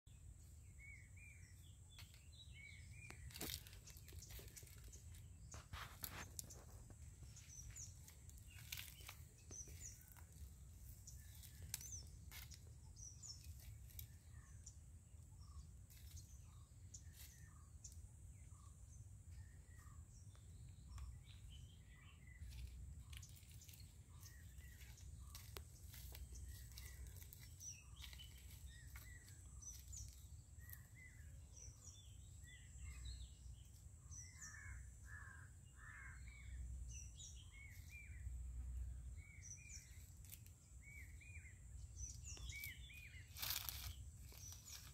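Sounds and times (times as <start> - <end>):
small birds chirping: 0.1 - 44.9.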